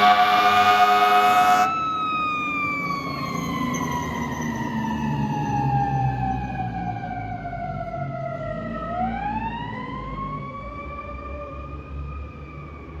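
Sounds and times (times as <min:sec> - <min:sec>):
fire truck siren: 0:00.0 - 0:13.0.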